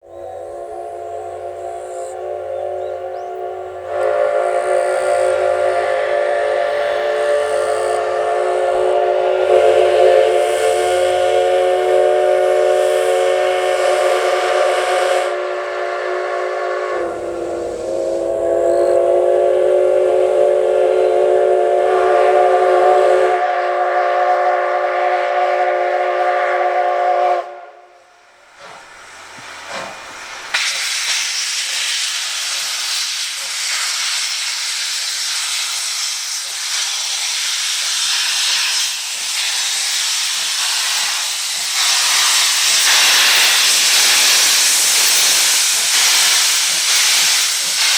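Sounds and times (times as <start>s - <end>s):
steam locomotive whistle: 0.0s - 47.9s
steam venting hiss: 0.0s - 47.9s.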